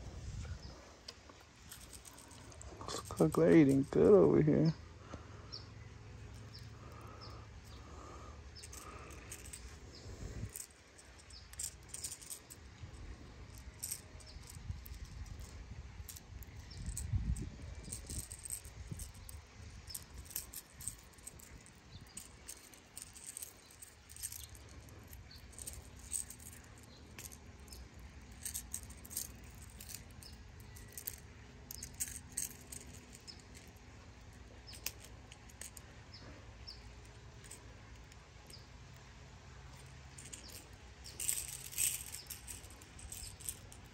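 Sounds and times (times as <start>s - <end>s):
handling rustle: 0.0s - 4.7s, 6.2s - 43.9s
plastic lure and hooks rattling: 1.3s - 4.3s, 6.3s - 36.0s, 36.7s - 43.9s.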